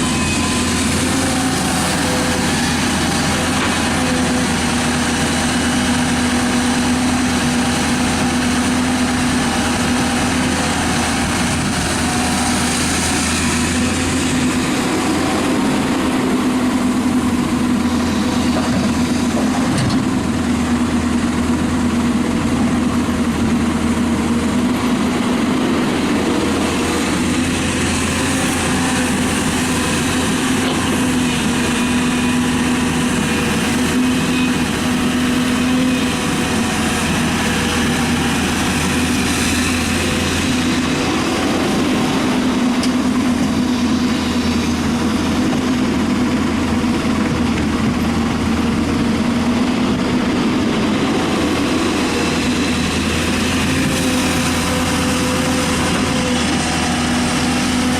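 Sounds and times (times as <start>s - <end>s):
excavator diesel engine droning: 0.0s - 57.9s.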